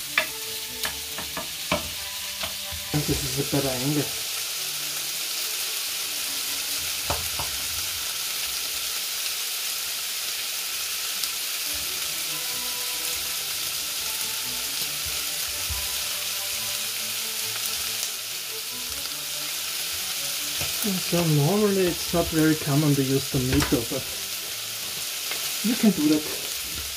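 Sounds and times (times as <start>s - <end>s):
meat sizzling in a pan: 0.0s - 26.9s.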